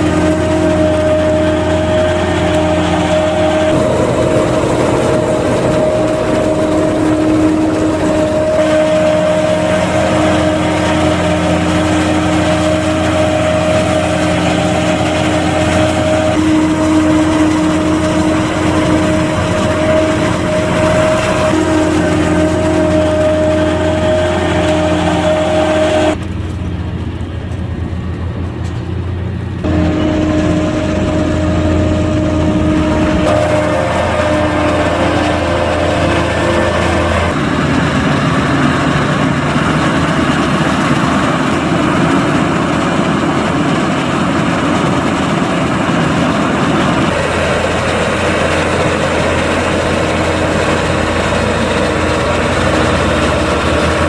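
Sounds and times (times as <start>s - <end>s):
forage harvester chopping maize: 0.0s - 26.2s, 32.4s - 54.0s
diesel farm machinery running: 0.0s - 54.0s.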